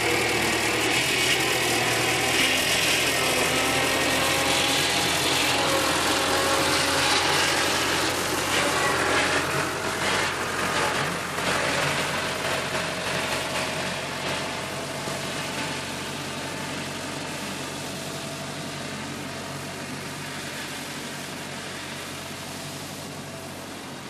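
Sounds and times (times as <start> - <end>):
rotary mower cutting grass: 0.0 - 24.0
tractor engine running: 0.0 - 24.0.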